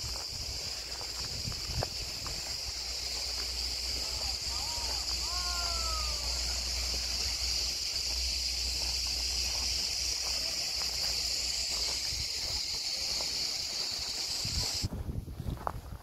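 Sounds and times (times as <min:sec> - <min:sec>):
cicadas buzzing: 0:00.0 - 0:14.9.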